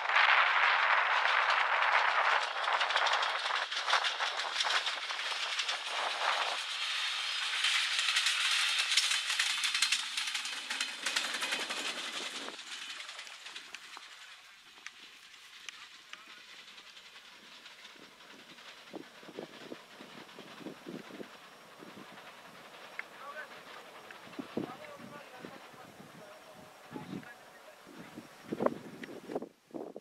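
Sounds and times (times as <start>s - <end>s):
train wheels on rails: 0.2s - 29.4s
diesel railcar engine: 0.8s - 29.5s.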